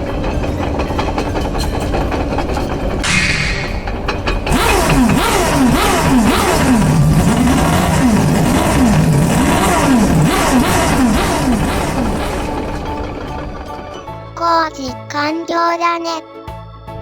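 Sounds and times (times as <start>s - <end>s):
bulldozer engine revving: 0.0s - 14.3s.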